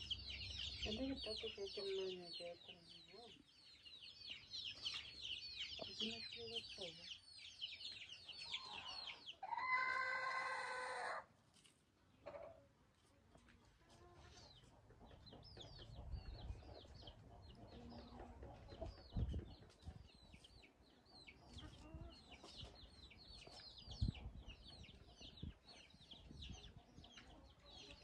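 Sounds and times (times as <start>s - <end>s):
birds chirping: 0.0s - 10.8s, 14.3s - 28.0s.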